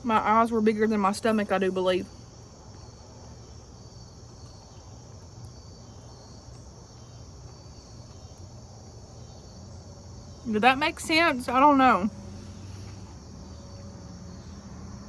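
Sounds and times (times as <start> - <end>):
insects chirping chorus: 0.0 - 15.0.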